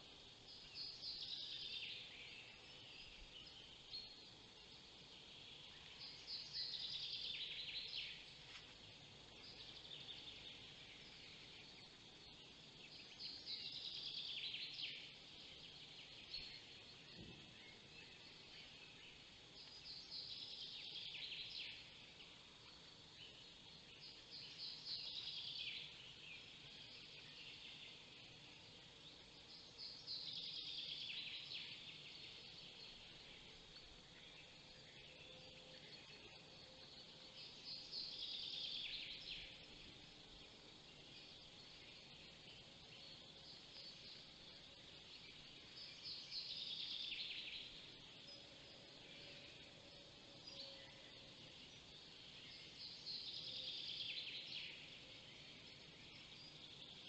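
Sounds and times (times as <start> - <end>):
low background hiss: 0.0 - 57.0
songbird singing: 0.0 - 57.0.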